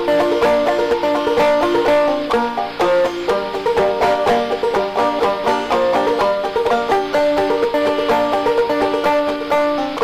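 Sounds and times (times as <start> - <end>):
plucked-string music: 0.0 - 10.0.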